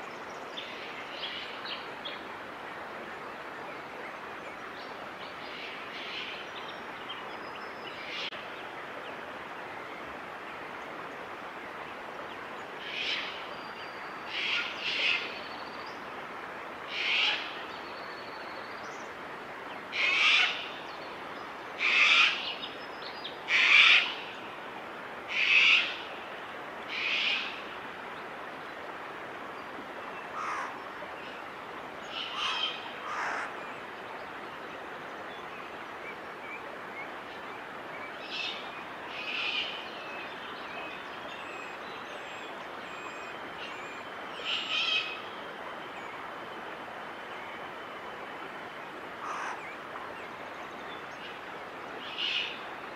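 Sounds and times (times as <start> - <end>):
background hiss: 0.0 - 52.9.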